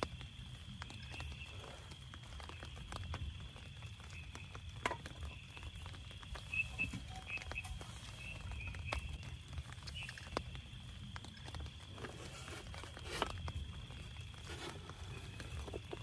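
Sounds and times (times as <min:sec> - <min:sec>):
frogs chirping: 0:00.0 - 0:16.0
rain pattering on tent: 0:00.0 - 0:16.0.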